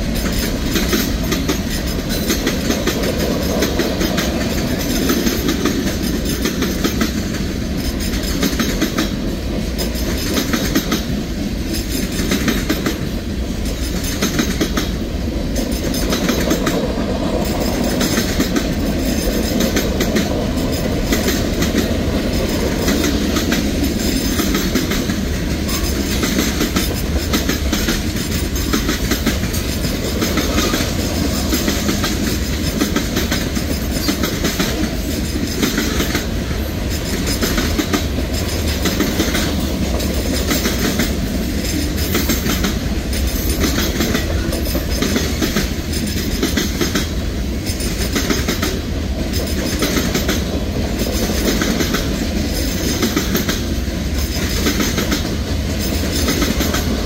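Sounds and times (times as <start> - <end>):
freight train wheels rumbling: 0.0 - 57.0
wheels clickety-clack on rail joints: 0.0 - 57.0.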